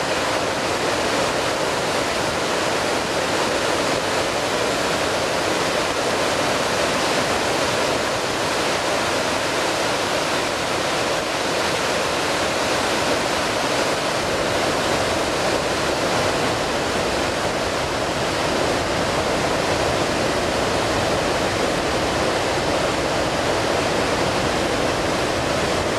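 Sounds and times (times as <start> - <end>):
river rushing through gorge: 0.0 - 25.9.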